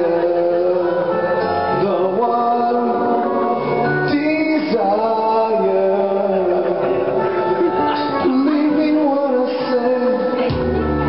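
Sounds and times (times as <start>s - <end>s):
keyboard: 0.0s - 11.0s
man singing into a microphone: 0.0s - 11.0s.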